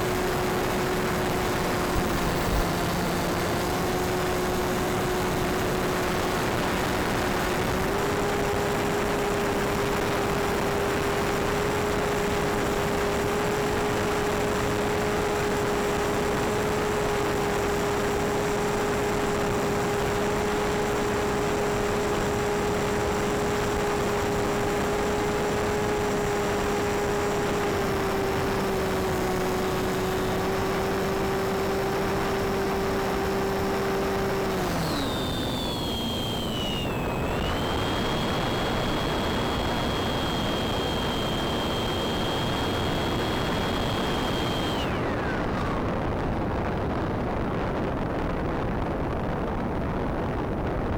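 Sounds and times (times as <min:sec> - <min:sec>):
electric motor whining: 0:00.0 - 0:46.3
higher gliding whine: 0:00.0 - 0:46.6.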